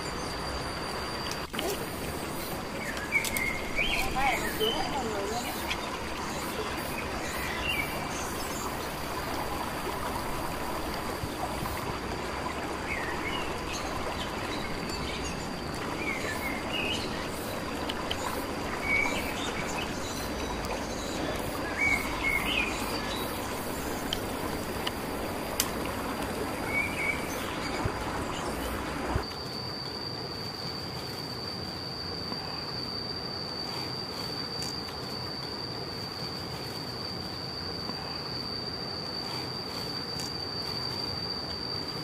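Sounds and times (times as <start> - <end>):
high-pitched whine: 0.0 - 42.0
steady rushing hiss: 0.0 - 42.0.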